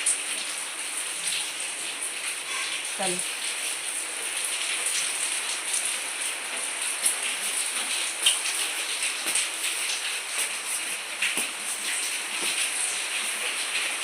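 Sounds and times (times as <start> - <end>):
heavy rain on hard surfaces: 0.0 - 14.0.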